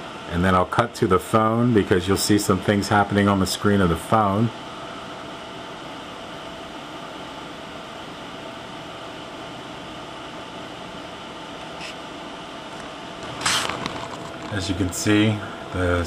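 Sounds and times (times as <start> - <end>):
room noise hiss and hum: 0.0 - 16.0.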